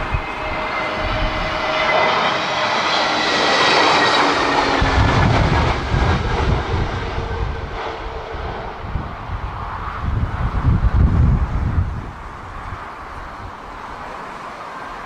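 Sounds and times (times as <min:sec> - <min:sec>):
wind buffeting microphone: 0:00.0 - 0:14.4
jet airliner passing overhead: 0:00.0 - 0:15.0.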